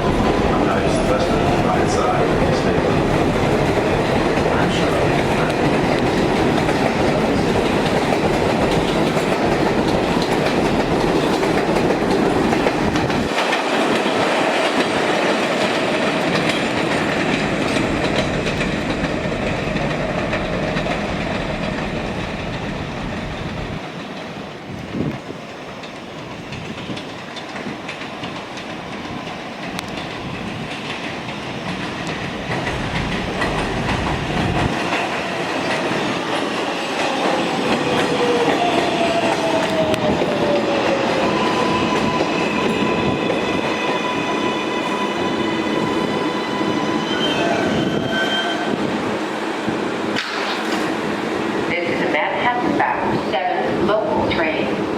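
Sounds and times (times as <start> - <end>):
train wheels clattering on rails: 0.0 - 54.8
train rumble: 0.0 - 54.9.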